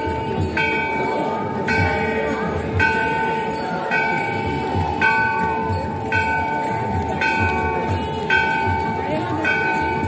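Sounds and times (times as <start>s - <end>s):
temple bell strikes: 0.0s - 10.0s.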